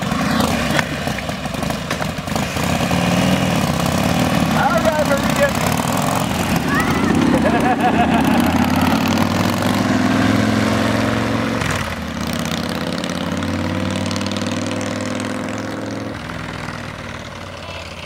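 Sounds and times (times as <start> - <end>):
motorcycle engines pulling away: 0.0 - 18.0.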